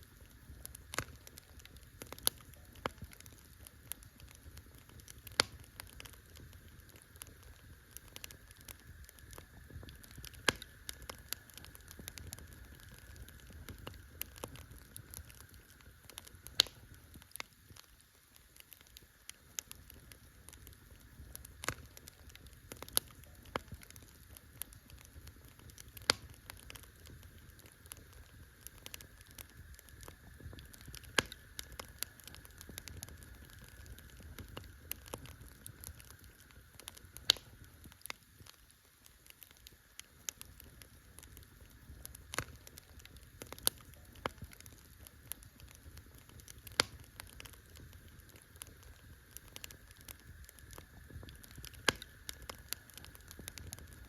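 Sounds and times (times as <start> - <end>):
low rumble of burning fire: 0.0 - 54.0
campfire pops and snaps: 0.1 - 54.0.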